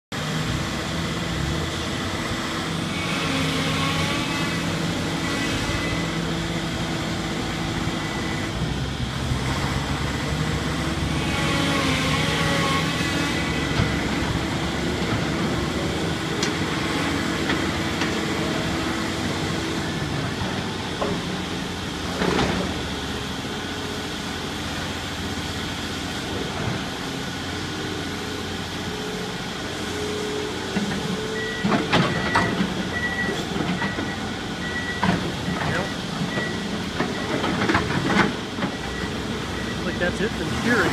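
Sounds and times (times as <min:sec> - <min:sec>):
excavator engine running: 0:00.2 - 0:40.9.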